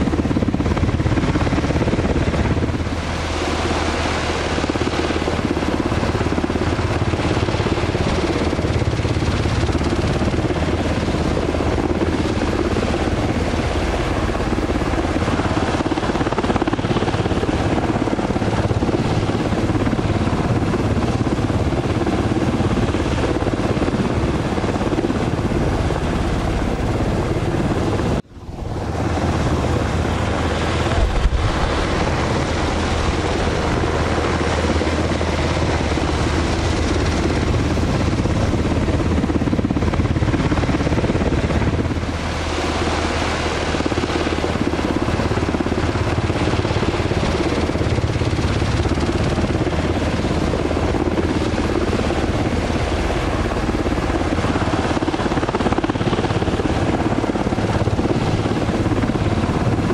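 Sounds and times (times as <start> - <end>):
helicopter engines and rotors: 0.0 - 59.9.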